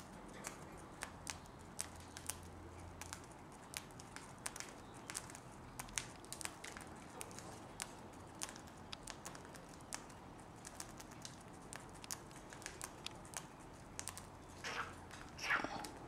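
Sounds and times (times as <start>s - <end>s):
beaks cracking seeds: 0.3s - 16.0s.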